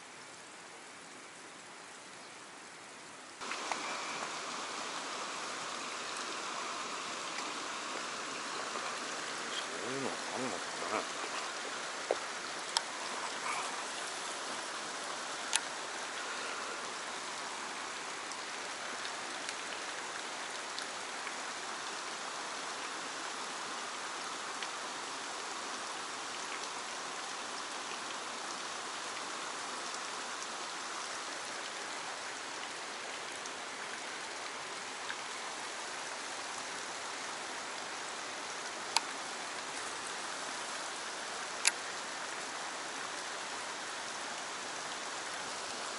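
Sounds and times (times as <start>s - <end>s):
stream rushing: 0.0s - 45.9s.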